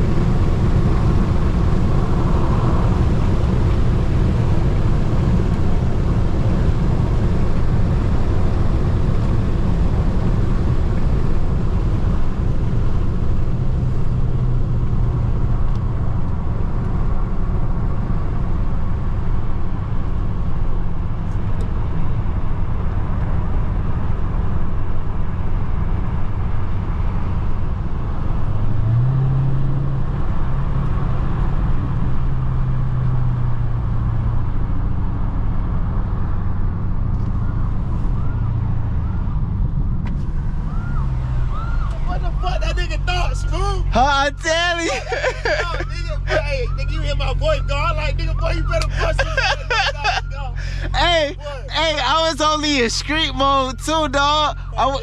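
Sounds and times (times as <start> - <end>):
car engine rumbling: 0.0 - 55.0
road noise: 0.0 - 55.0.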